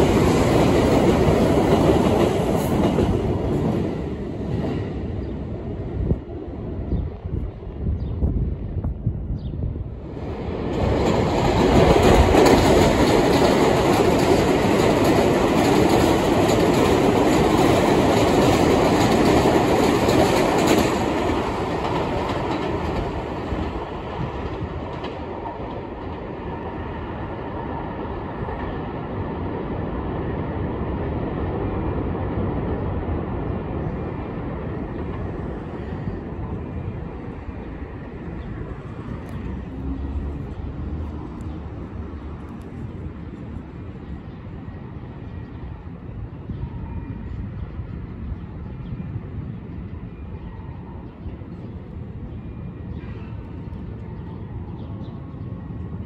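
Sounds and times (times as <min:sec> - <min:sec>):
subway train passing: 0:00.0 - 0:56.0.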